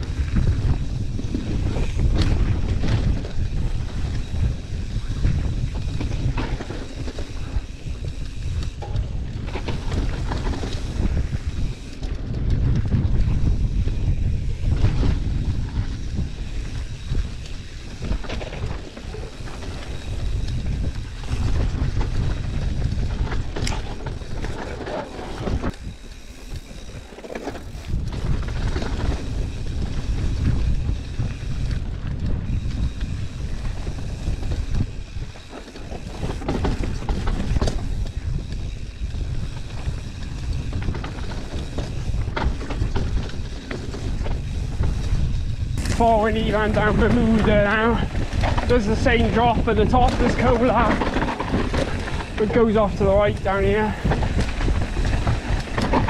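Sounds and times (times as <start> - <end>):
bike knocks and rattles: 0.0 - 56.0
tyre noise on dirt trail: 0.0 - 56.0
wind buffeting microphone: 0.0 - 56.0.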